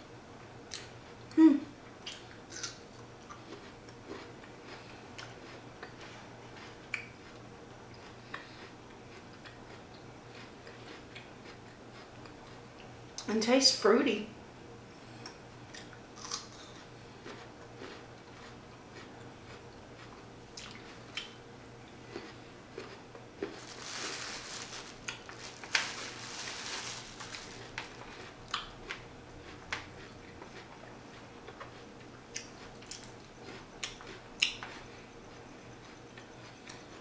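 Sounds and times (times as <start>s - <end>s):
crunchy chewing: 2.0s - 12.9s, 15.1s - 37.0s.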